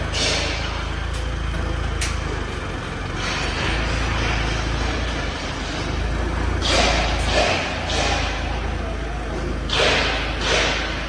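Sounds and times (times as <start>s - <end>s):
forklift engine rumbling: 0.0s - 11.0s.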